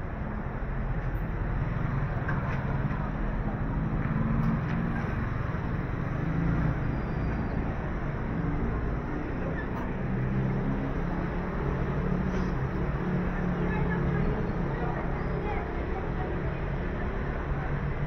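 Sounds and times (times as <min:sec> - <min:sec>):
road noise: 0:00.0 - 0:18.0
vehicle engines humming: 0:00.0 - 0:18.0.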